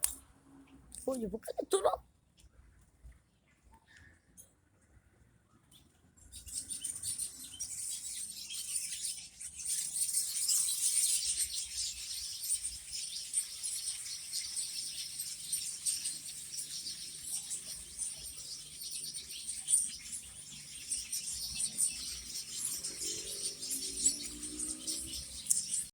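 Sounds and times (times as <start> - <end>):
small birds chirping: 0.0 - 2.7, 3.4 - 25.9.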